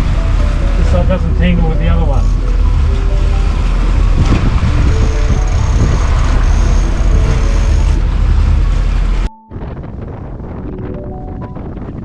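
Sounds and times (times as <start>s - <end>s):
boat under way: 0.0s - 12.0s
wind buffeting microphone: 0.0s - 12.0s.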